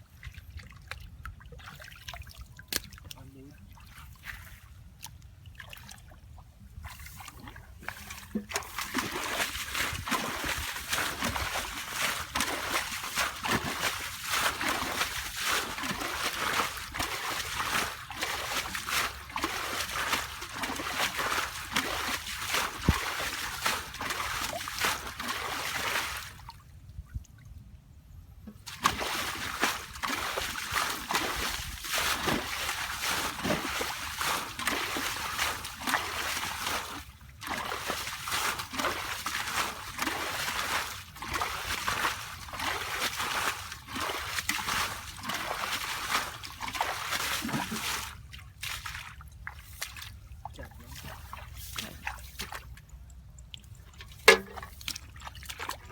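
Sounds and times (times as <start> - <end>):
shallow water splashing: 5.5 - 26.6, 28.5 - 55.9.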